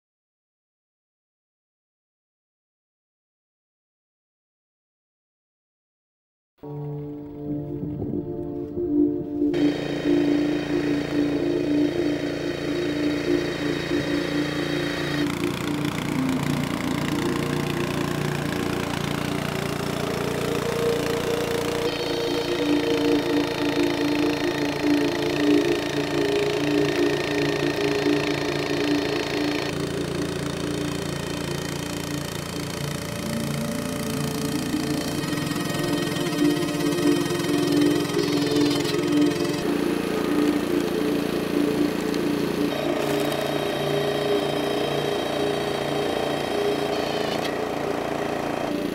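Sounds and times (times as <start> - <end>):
small gasoline engine idling: 9.5 - 48.9.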